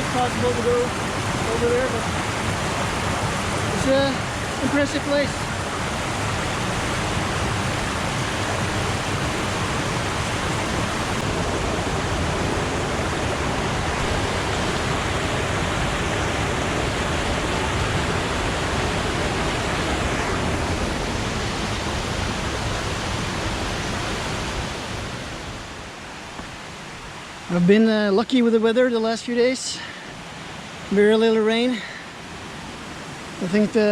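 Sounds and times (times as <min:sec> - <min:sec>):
waterfall rushing: 0:00.0 - 0:27.8.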